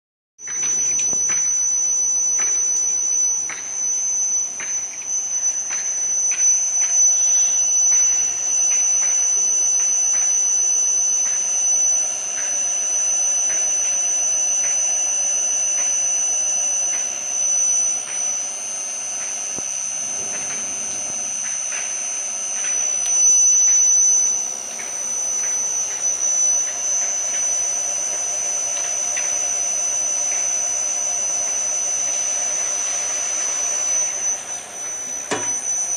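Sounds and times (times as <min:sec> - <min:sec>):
drilling machine whine and hum: 0:00.4 - 0:35.9.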